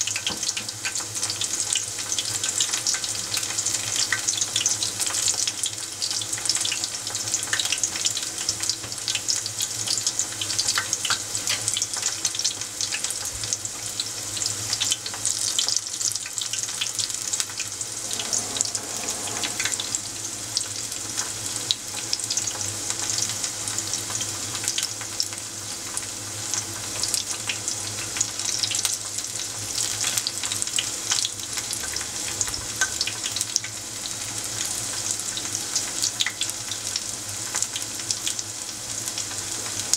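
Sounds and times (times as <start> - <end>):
oil sizzling and crackling: 0.0 - 39.9.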